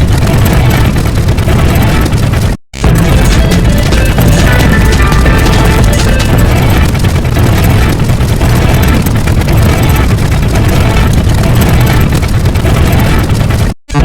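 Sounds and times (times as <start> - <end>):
heavy low rumble: 0.0 - 14.0
layered sound effects din: 0.0 - 14.0.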